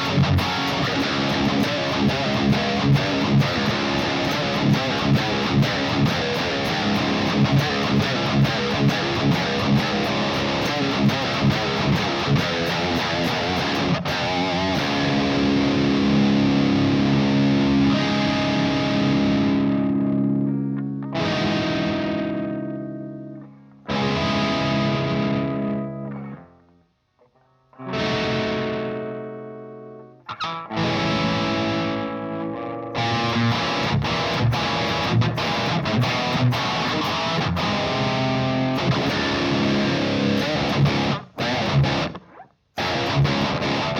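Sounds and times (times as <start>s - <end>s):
distorted electric guitar riff: 0.0s - 43.9s.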